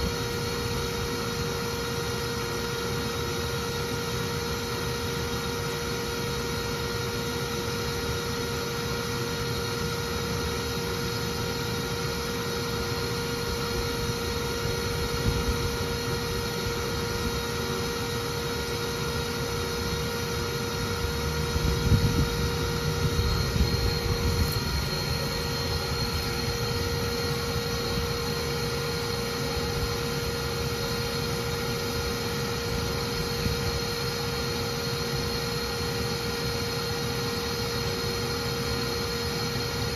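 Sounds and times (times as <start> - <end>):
vacuum motor drone with whine: 0.0 - 39.9.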